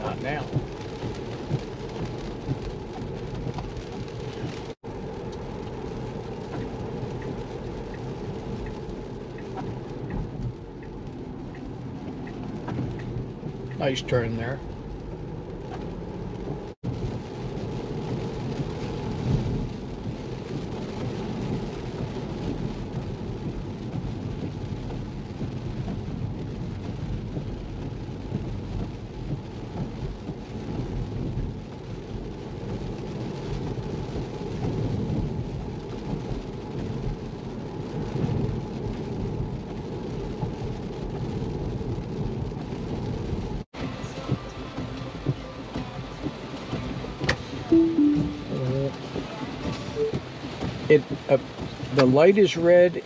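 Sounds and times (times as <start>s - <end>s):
hiss of spray and rain: 0.0s - 53.0s
tyre and road noise: 0.0s - 53.0s.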